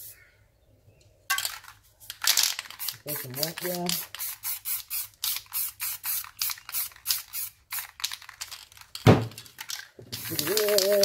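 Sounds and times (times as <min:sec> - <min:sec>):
spray paint can bursts: 0:01.3 - 0:11.0.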